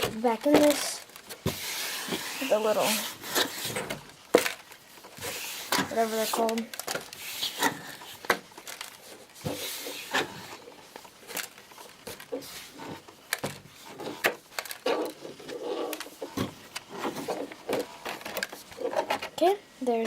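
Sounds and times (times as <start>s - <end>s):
plastic and cardboard rustling: 0.0s - 20.0s.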